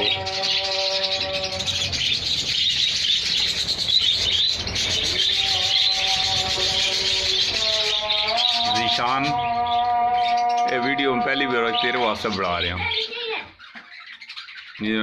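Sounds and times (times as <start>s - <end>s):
budgerigars chattering and chirping: 0.0s - 15.0s.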